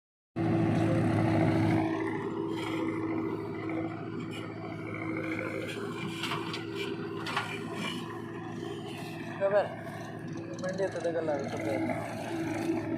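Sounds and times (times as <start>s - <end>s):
diesel engine running: 0.4s - 12.9s.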